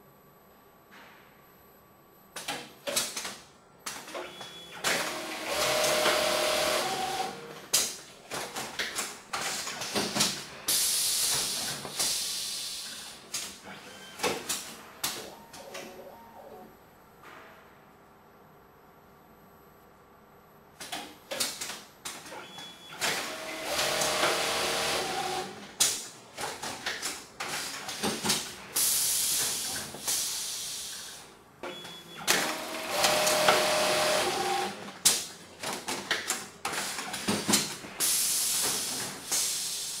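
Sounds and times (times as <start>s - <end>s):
pneumatic actuators clacking: 2.4s - 15.9s, 20.8s - 40.0s.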